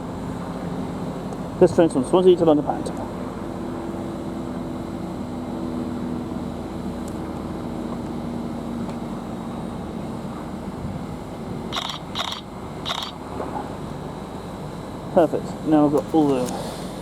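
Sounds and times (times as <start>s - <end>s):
train running drone: 0.0s - 17.0s.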